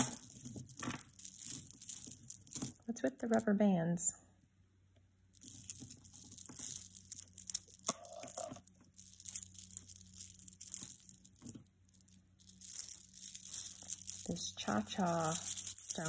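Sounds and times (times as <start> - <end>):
beads and chains clinking: 0.0 - 3.5, 5.3 - 16.0.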